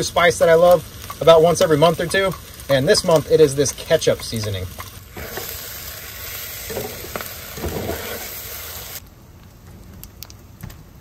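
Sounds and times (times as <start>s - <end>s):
food sizzling in a frying pan: 0.0s - 9.0s.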